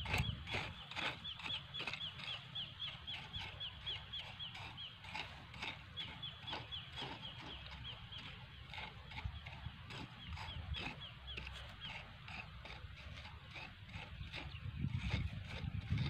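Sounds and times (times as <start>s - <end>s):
bird chirping: 0.0s - 16.0s
hand hoe scraping dry soil: 0.0s - 16.0s.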